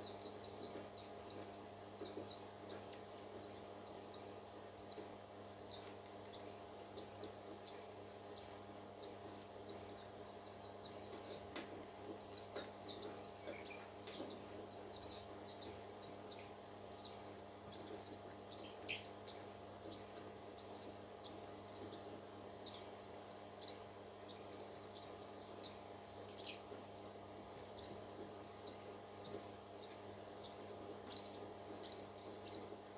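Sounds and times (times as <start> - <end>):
bird chirping: 0.0 - 11.4, 12.2 - 26.8, 27.4 - 32.8
steady low hum: 0.0 - 32.9.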